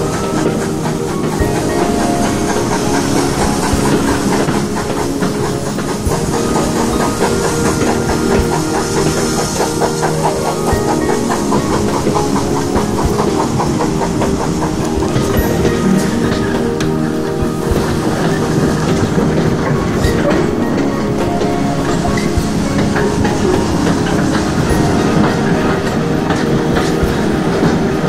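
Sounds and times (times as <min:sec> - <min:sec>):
steam hissing: 0:00.0 - 0:28.0
train clattering on track: 0:00.0 - 0:28.0.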